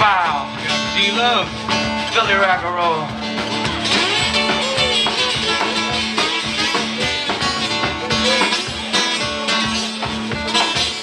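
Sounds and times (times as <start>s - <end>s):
acoustic guitar strumming: 0.0s - 11.0s
drum kit playing a groove: 0.0s - 11.0s.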